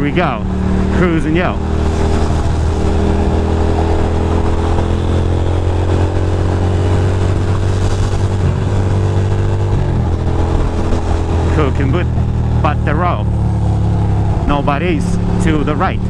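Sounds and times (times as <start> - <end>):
motorcycle engine cruising: 0.0 - 16.0
road noise: 0.0 - 16.0
rushing wind: 0.0 - 16.0.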